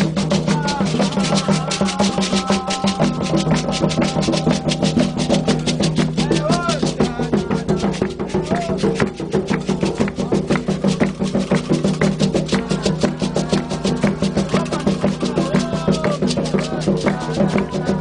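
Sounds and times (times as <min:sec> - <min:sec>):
hand drums: 0:00.0 - 0:18.0
faint singing voices: 0:00.3 - 0:18.0.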